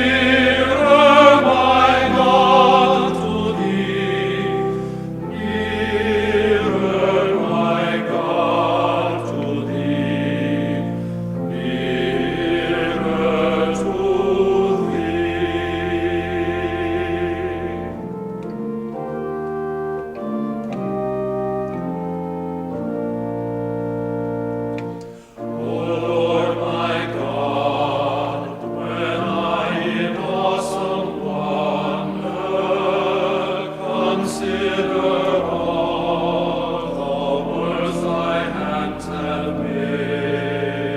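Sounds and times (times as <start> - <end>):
choir singing: 0.0 - 40.9
organ playing held notes: 0.0 - 40.9.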